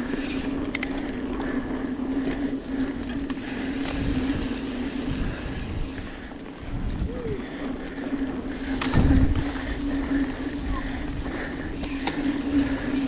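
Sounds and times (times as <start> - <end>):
bike riding on dirt: 0.0 - 13.0.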